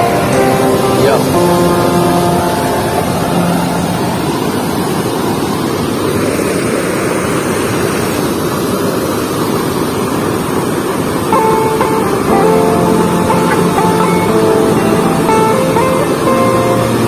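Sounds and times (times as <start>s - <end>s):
river water rushing through gate: 0.0s - 17.0s.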